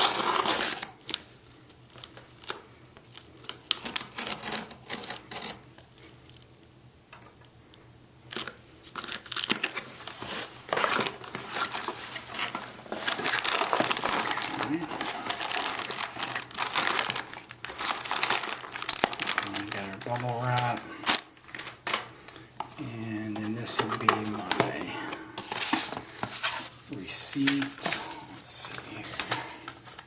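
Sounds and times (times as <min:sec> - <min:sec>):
packaging crinkling and tearing: 0:00.0 - 0:06.5, 0:08.3 - 0:30.0.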